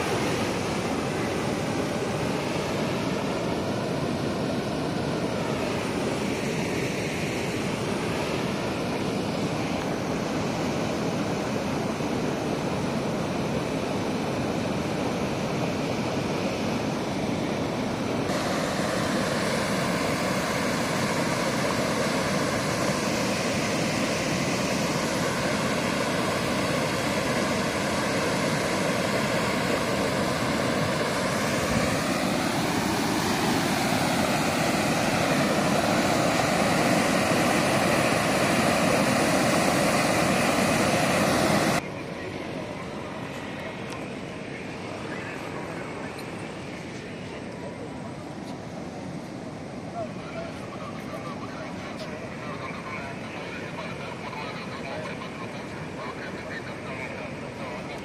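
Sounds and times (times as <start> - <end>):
water rushing over weir: 0.0 - 58.0.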